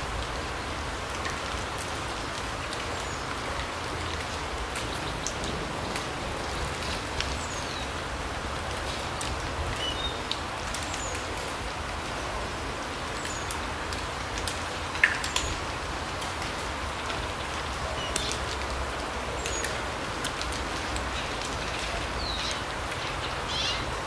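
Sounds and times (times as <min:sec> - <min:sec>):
rain drops pattering: 0:00.0 - 0:24.0.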